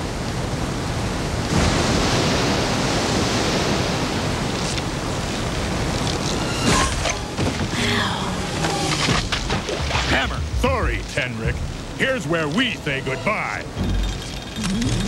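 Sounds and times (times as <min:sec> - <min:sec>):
fast river current rushing: 0:00.0 - 0:15.0.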